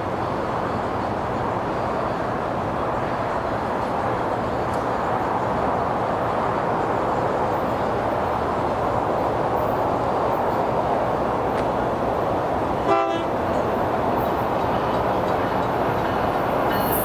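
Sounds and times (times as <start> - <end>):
rushing vehicle noise: 0.1 - 17.0.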